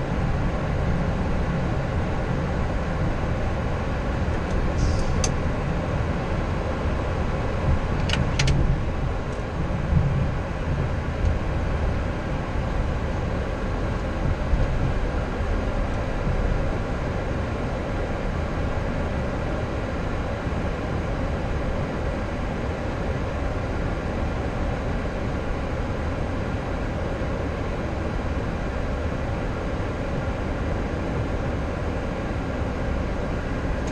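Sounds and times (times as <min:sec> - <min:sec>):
jet engines idling in cockpit: 0:00.0 - 0:33.9.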